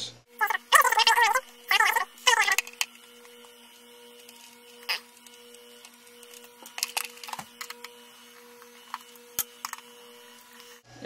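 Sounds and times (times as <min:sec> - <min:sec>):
electrical buzz: 0:00.0 - 0:11.0.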